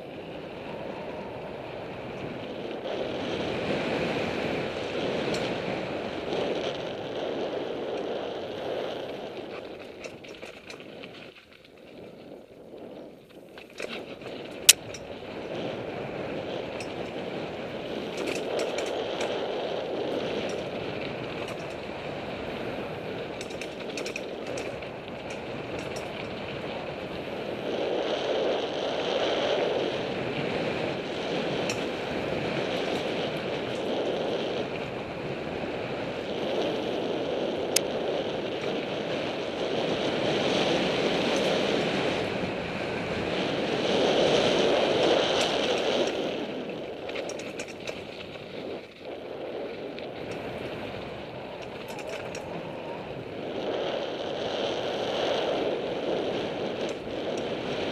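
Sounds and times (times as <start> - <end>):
bike clicks and rattles: 0.0 - 57.9
bike tyres on dirt: 0.0 - 57.9
wind rushing over microphone: 0.0 - 57.9.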